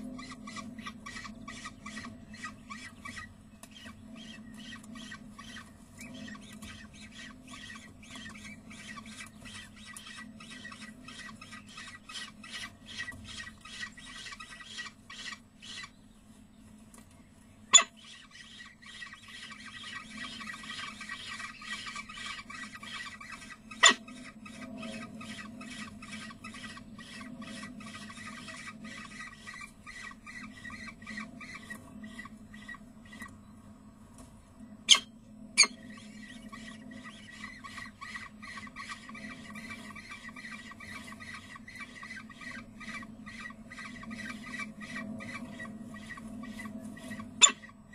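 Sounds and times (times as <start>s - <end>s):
falcon chicks begging calls: 0.0s - 16.0s, 17.7s - 33.3s, 34.9s - 47.9s
low hum: 0.0s - 47.9s.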